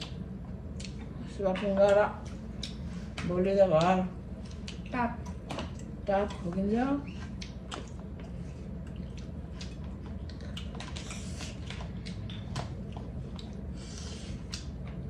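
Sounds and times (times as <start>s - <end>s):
wet chewing and lip-smacking: 0.0s - 1.2s, 1.8s - 2.9s, 3.8s - 6.0s, 7.0s - 15.0s.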